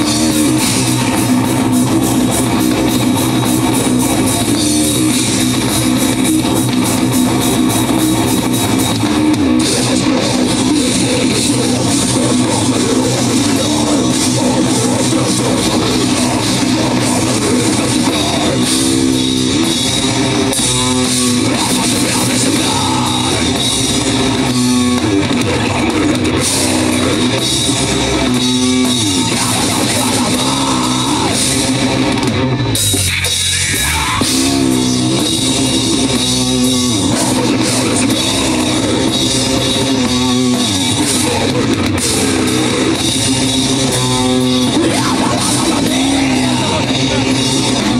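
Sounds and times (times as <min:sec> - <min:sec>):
drum kit: 0:00.0 - 0:47.9
heavy electric guitars: 0:00.0 - 0:47.9.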